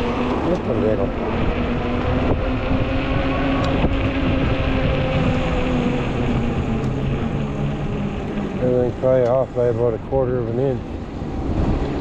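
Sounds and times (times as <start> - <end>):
electric motor whine: 0.0 - 12.0
low hum: 0.0 - 12.0
tires rumbling: 0.0 - 12.0
wind on microphone: 0.0 - 12.0.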